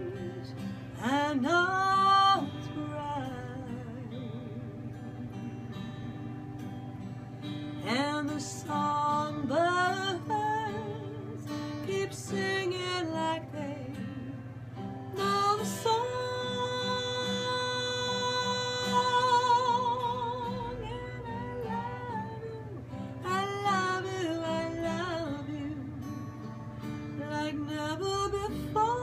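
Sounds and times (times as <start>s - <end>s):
acoustic guitar: 0.0s - 29.0s
woman singing a ballad: 0.0s - 29.0s.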